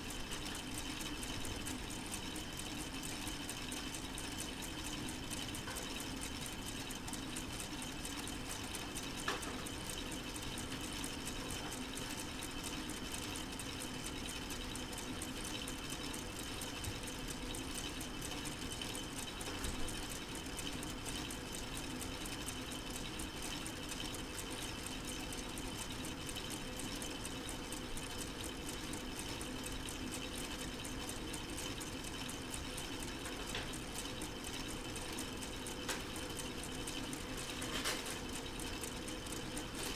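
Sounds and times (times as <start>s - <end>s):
model engine mechanical whir: 0.0s - 39.9s.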